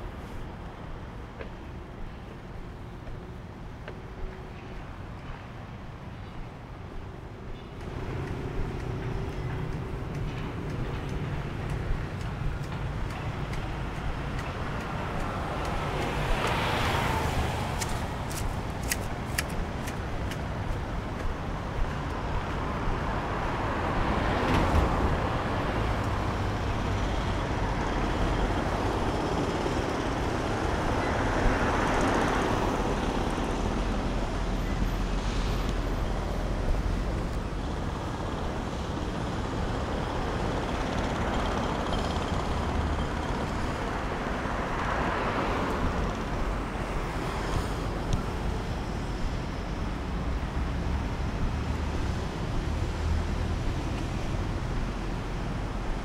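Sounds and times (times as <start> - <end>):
low traffic rumble: 0.0 - 56.0
vehicles passing: 0.0 - 56.0.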